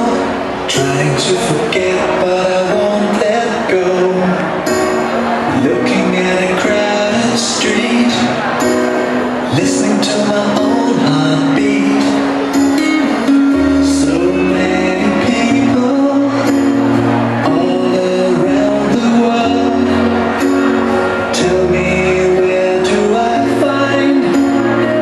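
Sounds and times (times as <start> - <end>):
pop song with singing: 0.0 - 25.0.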